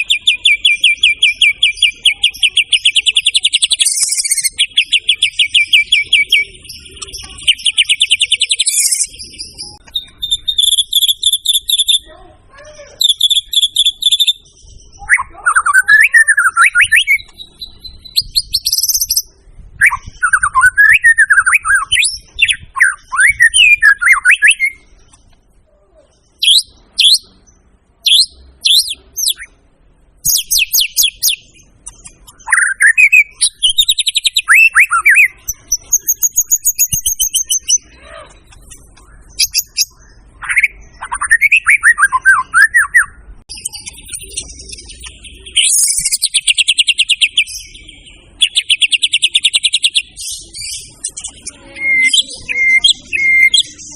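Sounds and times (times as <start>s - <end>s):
songbird whistling and trilling: 0.0s - 12.1s, 13.0s - 25.2s, 26.3s - 29.6s, 30.2s - 53.9s.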